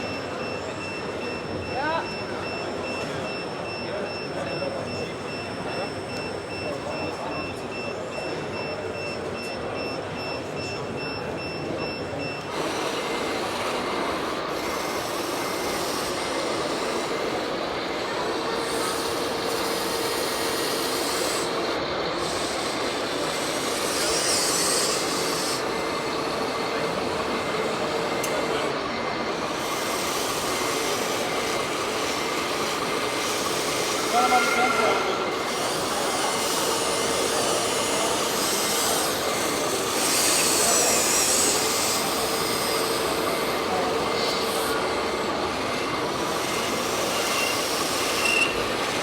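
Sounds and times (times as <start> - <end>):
faint motor whines: 0.0 - 49.0
model trucks mechanical din: 0.0 - 49.0.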